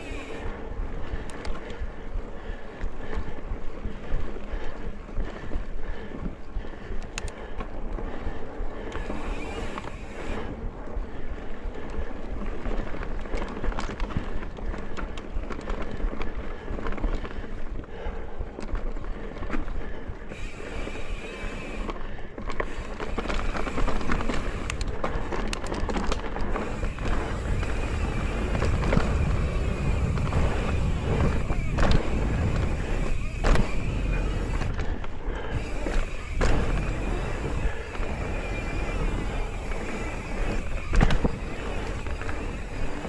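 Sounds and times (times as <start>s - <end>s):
bike rattling over bumps: 0.0s - 43.0s
bike tyres crunching over dirt: 0.0s - 43.0s.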